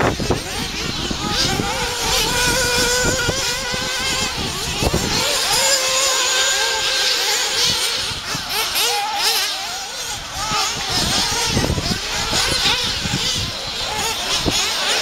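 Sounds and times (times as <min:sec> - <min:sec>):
small engines buzzing: 0:00.0 - 0:15.0.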